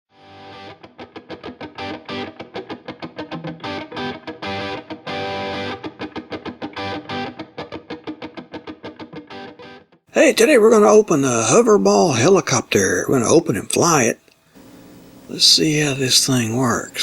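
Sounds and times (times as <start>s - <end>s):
rhythmic guitar riff: 0.2s - 17.0s.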